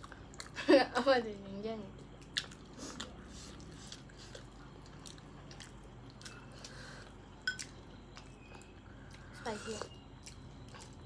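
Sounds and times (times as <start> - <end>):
chewing and biting food: 0.0 - 0.6, 2.1 - 11.0.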